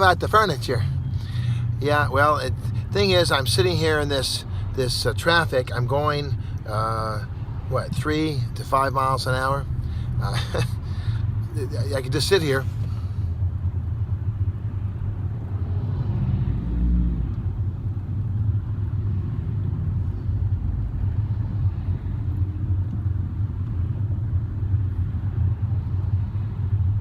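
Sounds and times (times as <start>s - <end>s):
car engine rumble: 0.0s - 27.0s
road noise: 0.0s - 27.0s.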